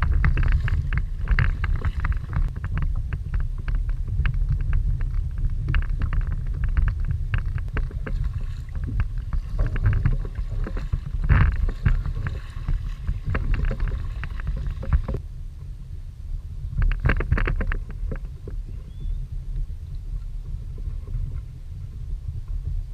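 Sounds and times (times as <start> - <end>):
water slapping kayak hull: 0.0 - 15.2, 16.8 - 22.9
wind rumbling on microphone: 0.0 - 22.9.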